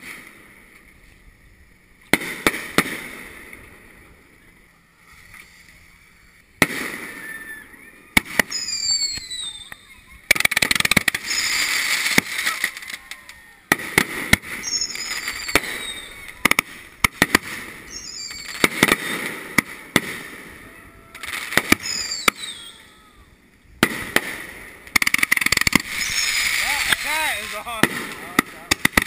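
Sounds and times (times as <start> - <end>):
fireworks bangs and crackling: 0.0 - 29.0
fireworks whistles: 0.0 - 29.0.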